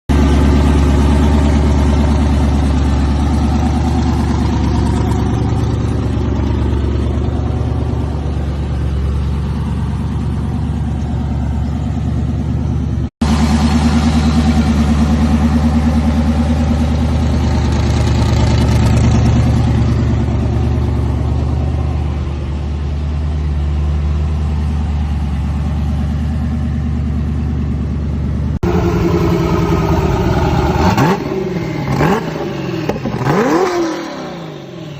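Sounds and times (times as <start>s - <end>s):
truck engine exhaust drone: 0.1s - 34.9s.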